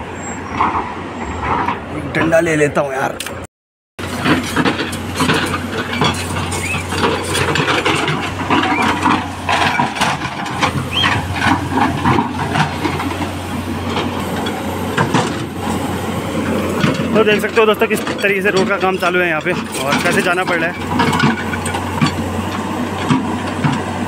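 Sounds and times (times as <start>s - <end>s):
excavator diesel engine running: 0.0s - 3.4s, 4.0s - 24.0s.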